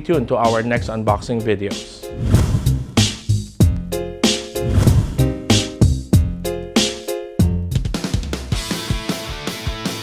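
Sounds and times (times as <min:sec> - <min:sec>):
upbeat funky music: 0:00.0 - 0:10.0.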